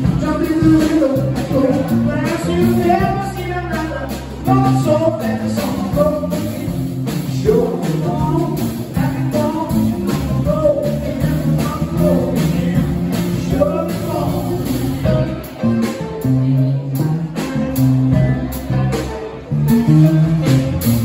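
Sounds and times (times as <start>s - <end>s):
drum kit: 0.0s - 21.0s
electric bass: 0.0s - 21.0s
electric guitar: 0.0s - 21.0s
person singing: 0.0s - 21.0s.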